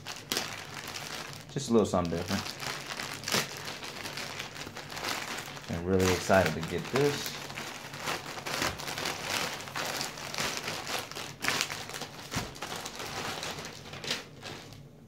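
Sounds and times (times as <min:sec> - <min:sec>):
plastic bags crinkling and rustling: 0:00.0 - 0:14.9.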